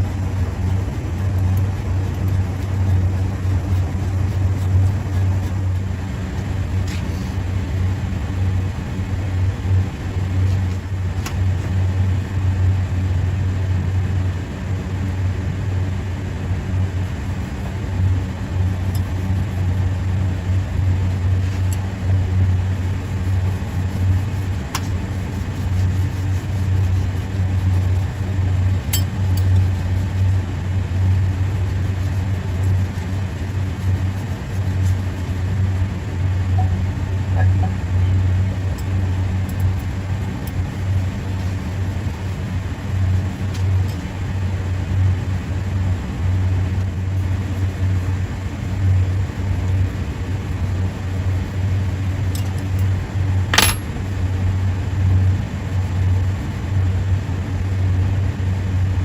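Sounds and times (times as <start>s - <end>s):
low machinery hum: 0.0s - 59.0s.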